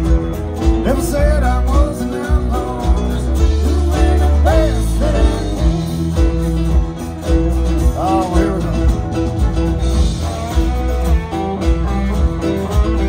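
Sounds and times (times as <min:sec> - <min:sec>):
fiddle: 0:00.0 - 0:13.0
live country band playing: 0:00.0 - 0:13.0.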